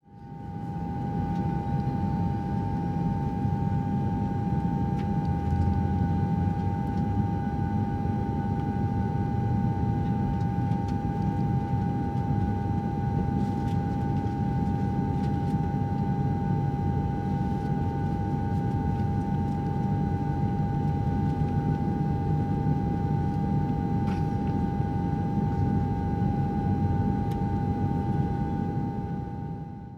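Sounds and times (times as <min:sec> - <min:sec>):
constant whine: 0:00.5 - 0:29.4
airliner cabin rumble: 0:00.8 - 0:29.2.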